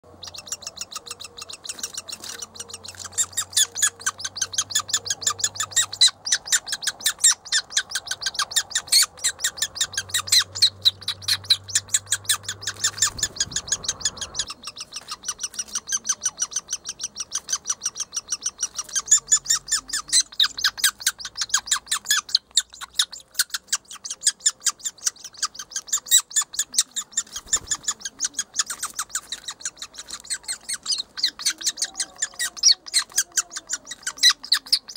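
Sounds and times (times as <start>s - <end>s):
woodpecker nestlings chirping: 0.1s - 34.9s.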